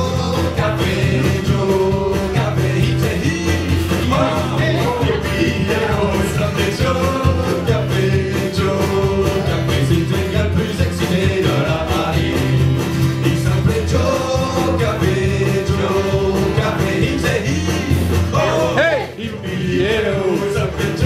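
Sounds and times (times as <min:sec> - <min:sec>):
acoustic guitar: 0:00.0 - 0:21.0
keyboard playing: 0:00.0 - 0:21.0
men singing into microphones: 0:00.0 - 0:21.0.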